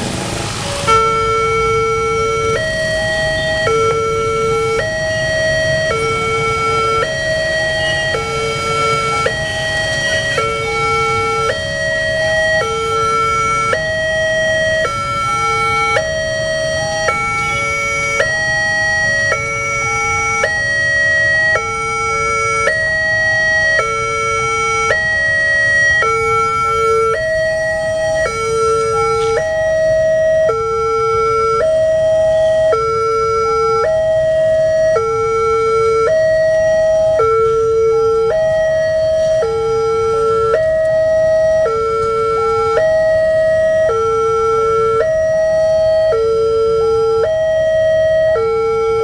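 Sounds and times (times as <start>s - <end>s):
low rumble of traffic: 0.0s - 49.0s
two-tone electronic crossing sirens: 0.0s - 49.0s.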